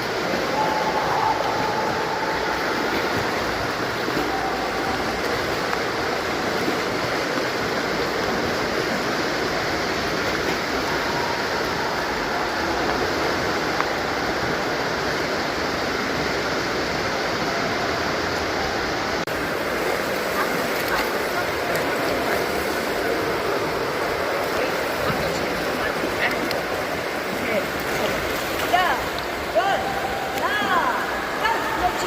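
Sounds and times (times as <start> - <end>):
swimming pool water splashing: 0.0 - 32.0.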